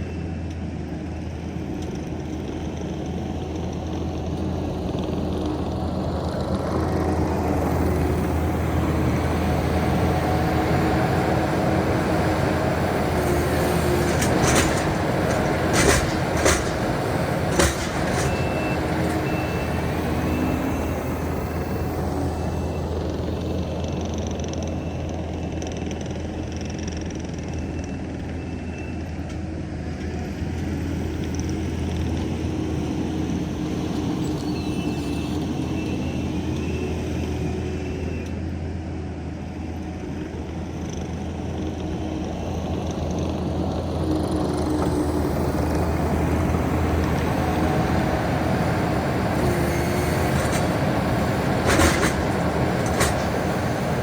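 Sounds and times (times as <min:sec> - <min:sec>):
heavy equipment engine running: 0:00.0 - 0:54.0.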